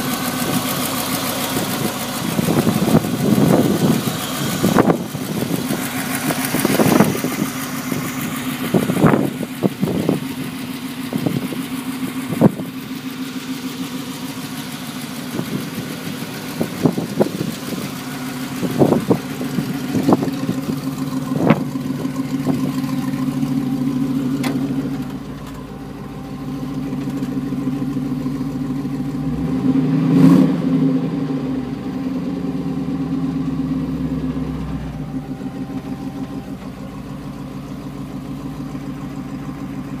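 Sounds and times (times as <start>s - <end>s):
pickup engine idling and revving: 0.0s - 40.0s.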